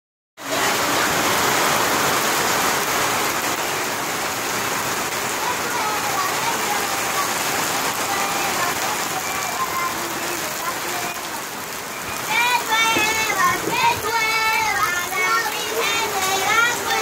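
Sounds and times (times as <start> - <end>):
heavy rain on concrete: 0.4 - 17.0
runoff water splashing on ground: 0.4 - 17.0.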